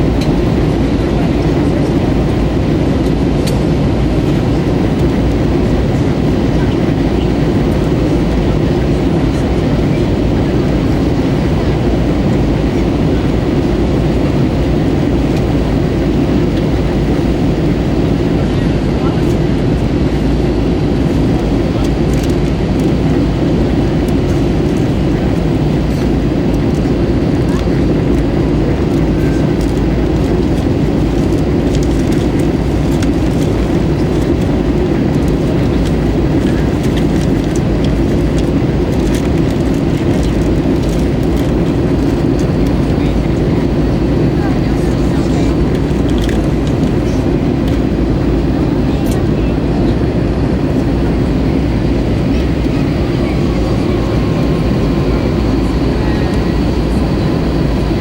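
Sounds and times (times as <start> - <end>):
air rushing outside cabin: 0.0 - 58.0
jet engines rumbling: 0.0 - 58.0.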